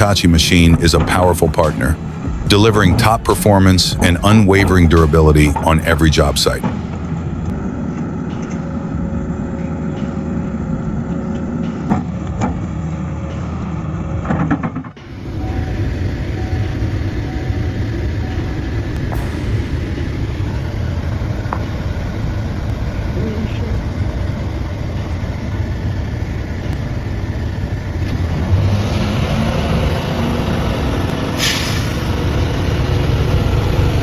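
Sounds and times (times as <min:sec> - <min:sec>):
heavy machinery engine running: 0:00.0 - 0:34.0.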